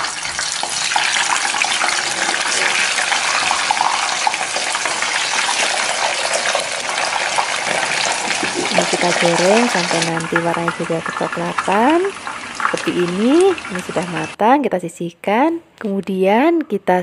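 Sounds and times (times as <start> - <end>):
fish deep-frying in hot oil: 0.0 - 14.4.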